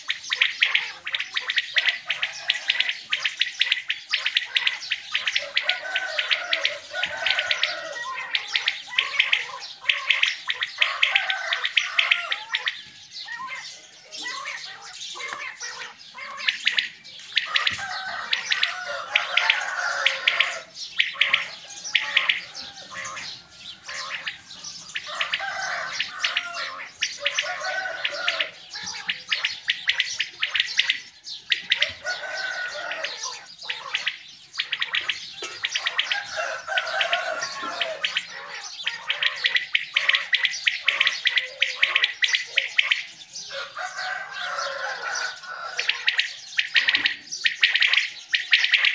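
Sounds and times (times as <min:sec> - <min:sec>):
quail warbling phrases: 0:00.0 - 0:48.9
quails chirping: 0:00.0 - 0:48.9.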